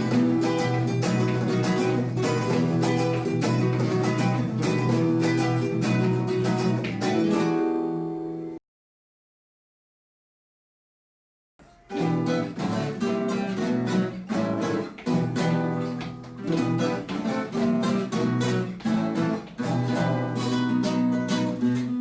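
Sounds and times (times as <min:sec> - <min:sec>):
strummed acoustic guitar: 0:00.0 - 0:08.2, 0:11.6 - 0:22.0.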